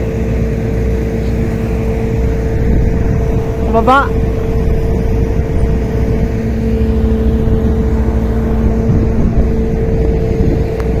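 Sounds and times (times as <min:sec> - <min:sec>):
crane engine rumbling: 0:00.0 - 0:11.0
engine whine: 0:00.0 - 0:11.0
lower whine: 0:00.0 - 0:11.0.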